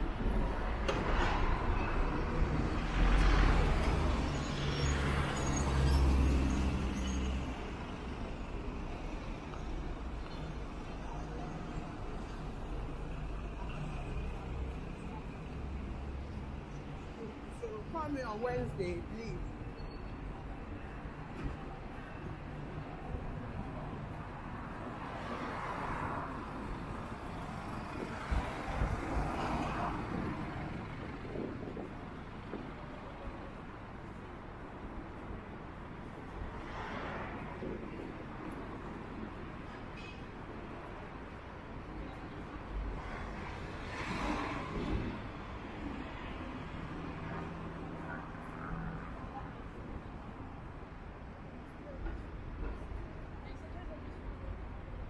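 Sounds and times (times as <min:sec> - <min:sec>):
background traffic noise: 0:00.0 - 0:55.0
vehicles passing: 0:00.0 - 0:55.0.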